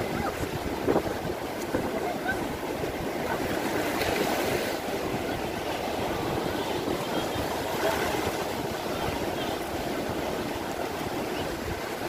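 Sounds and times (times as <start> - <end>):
surf washing over beach: 0.0 - 12.0
wind noise on microphone: 0.0 - 12.0.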